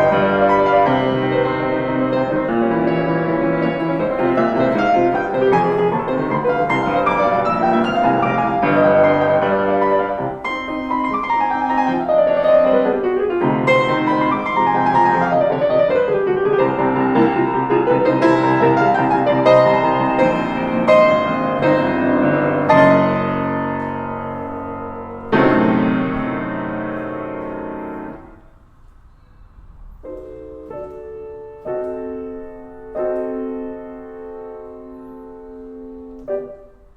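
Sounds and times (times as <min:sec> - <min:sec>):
solo piano: 0:00.0 - 0:36.9.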